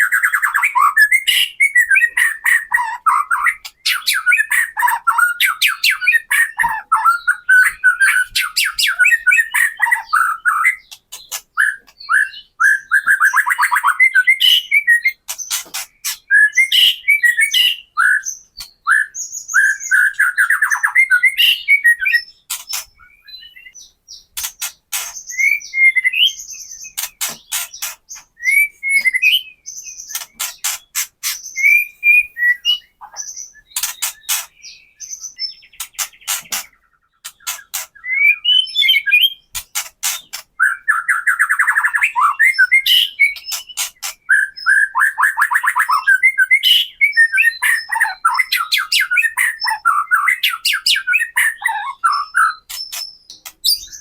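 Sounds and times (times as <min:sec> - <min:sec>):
bird chattering song: 0:00.0 - 0:54.0.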